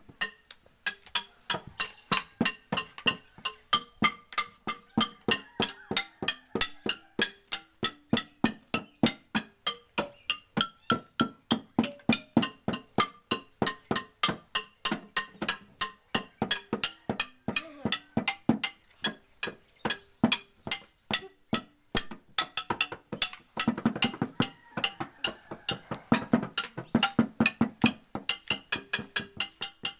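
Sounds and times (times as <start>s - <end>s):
percussion-led music: 0.0s - 29.9s.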